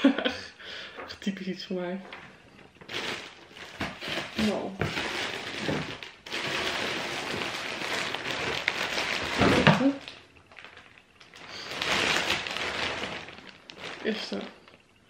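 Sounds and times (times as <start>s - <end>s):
plastic bag rustling: 2.1s - 15.0s.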